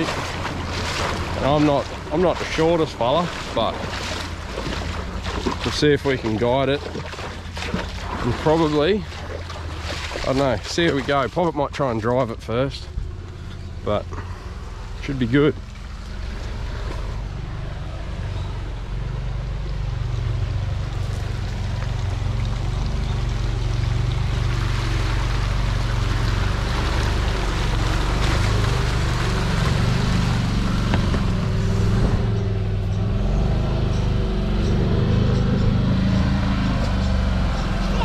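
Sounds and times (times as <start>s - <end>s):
buggy engine running: 0.0s - 38.0s
water rushing and splashing: 0.0s - 38.0s.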